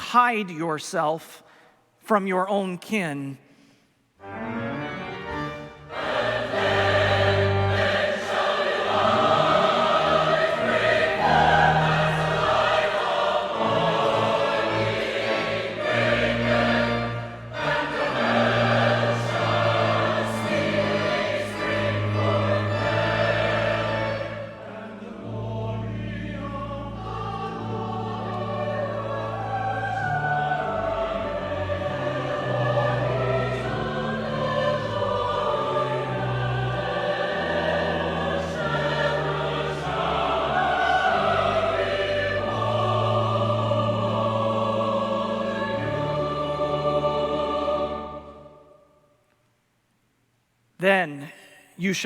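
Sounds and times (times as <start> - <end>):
church choir singing: 4.2 - 49.2.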